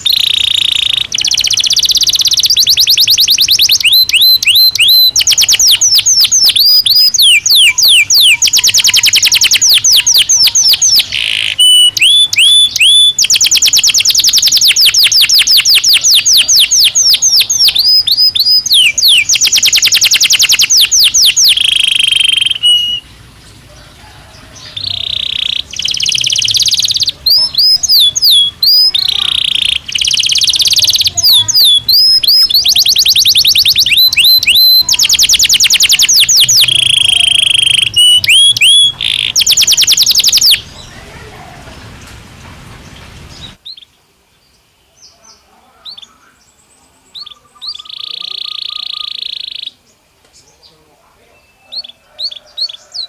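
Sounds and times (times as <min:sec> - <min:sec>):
faint bird chirps: 0:00.0 - 0:23.1, 0:23.7 - 0:41.5, 0:44.8 - 0:53.0
canary singing trills: 0:00.0 - 0:42.1, 0:44.6 - 0:53.0.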